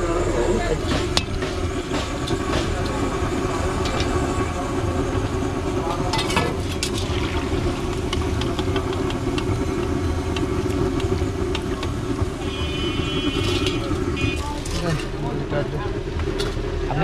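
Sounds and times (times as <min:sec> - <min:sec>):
metal skimmer scraping wok: 0:00.7 - 0:15.3
oil bubbling in deep frying: 0:00.8 - 0:15.3.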